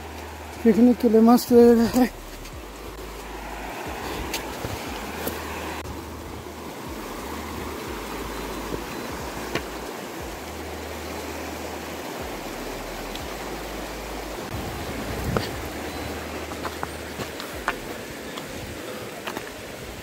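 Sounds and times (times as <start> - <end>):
stream water rushing over rocks: 0.0 - 20.0.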